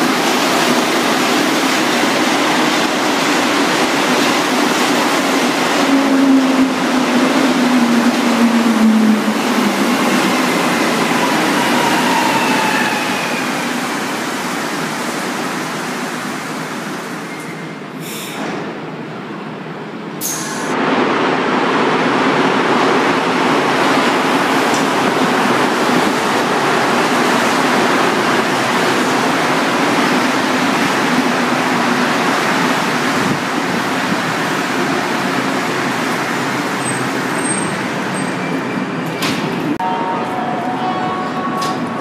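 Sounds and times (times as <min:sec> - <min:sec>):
metro train rumbling past: 0:00.0 - 0:42.0.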